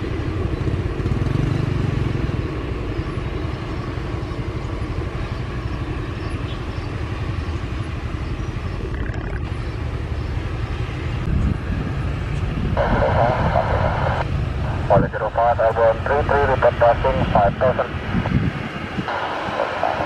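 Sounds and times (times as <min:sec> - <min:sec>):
turboprop aircraft engine noise: 0:00.0 - 0:20.0.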